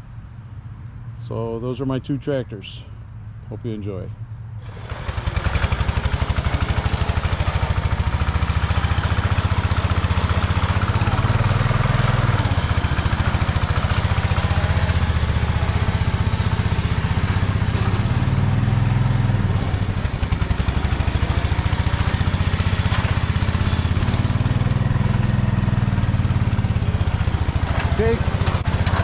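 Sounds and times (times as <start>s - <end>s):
garden tractor engine running: 4.6s - 29.0s.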